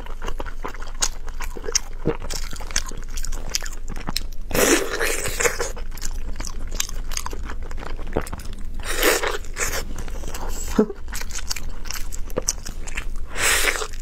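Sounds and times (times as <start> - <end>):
wet mouth chewing: 0.0 - 14.0.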